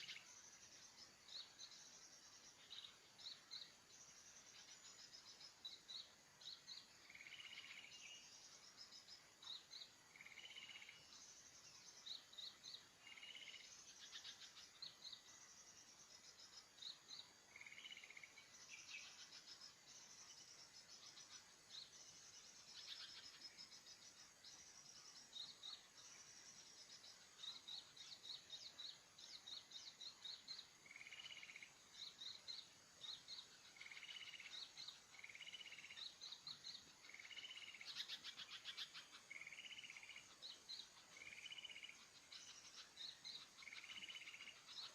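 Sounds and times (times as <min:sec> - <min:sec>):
insect hum: 0:00.0 - 0:44.9
small birds chirping: 0:00.0 - 0:44.9.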